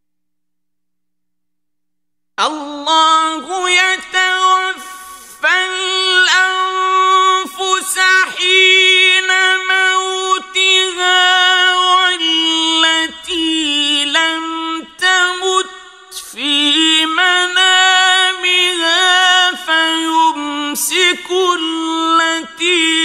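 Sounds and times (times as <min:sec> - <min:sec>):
man reciting melodically: 0:02.4 - 0:23.0.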